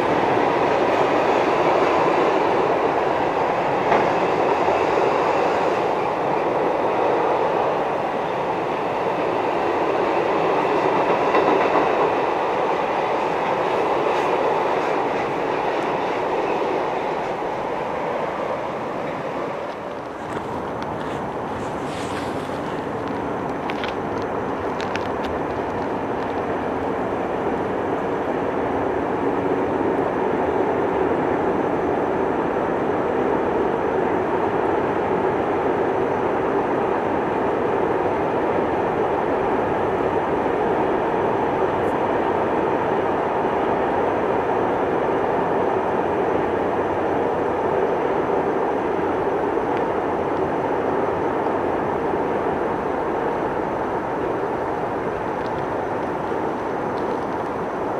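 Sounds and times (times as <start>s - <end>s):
freight train rumbling on rails: 0.0s - 57.9s.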